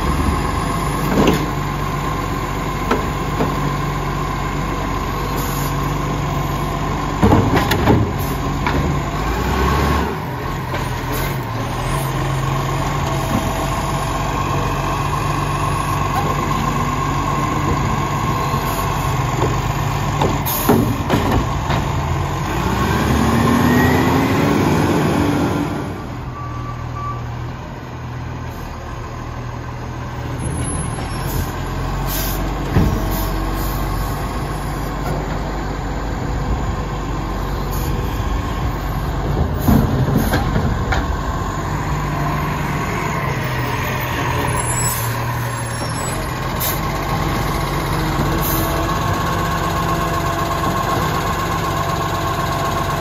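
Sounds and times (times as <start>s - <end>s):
garbage truck engine running: 0.0s - 53.0s.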